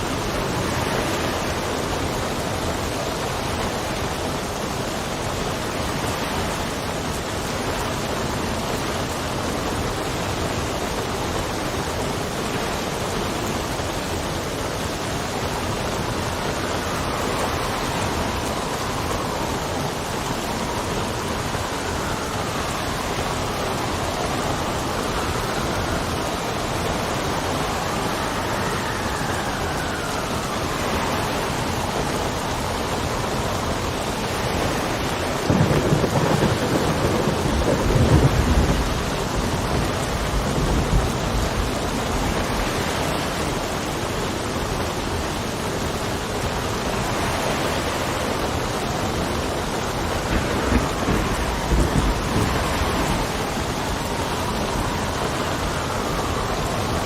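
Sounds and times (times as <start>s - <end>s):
heavy rain: 0.0s - 57.0s
whistling wind: 0.0s - 57.0s.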